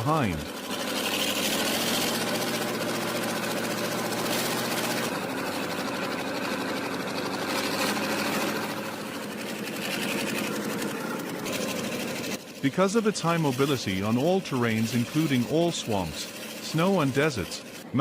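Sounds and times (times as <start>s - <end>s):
diesel engine clattering: 0.0s - 17.8s.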